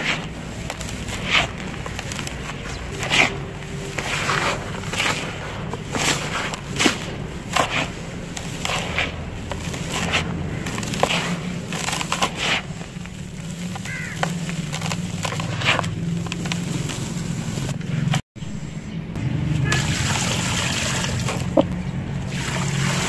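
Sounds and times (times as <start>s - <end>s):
dry cement crunching by hand: 0.0s - 18.2s, 19.6s - 23.0s.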